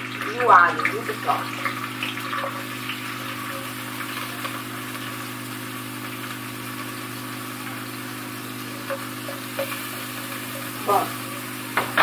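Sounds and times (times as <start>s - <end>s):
low mechanical hum: 0.0s - 12.0s
onion sizzling in oil: 0.0s - 12.0s.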